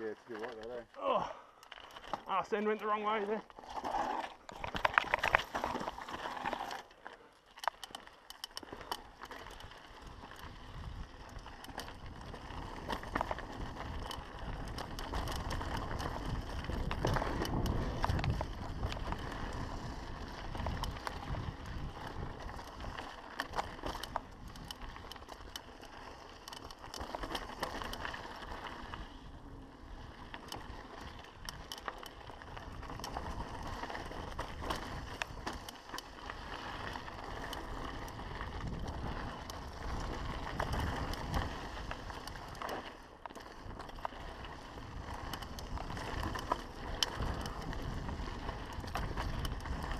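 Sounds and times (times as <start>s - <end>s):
bike rattling and clicking: 0.0s - 49.9s
bike tyres on dirt: 0.0s - 49.9s.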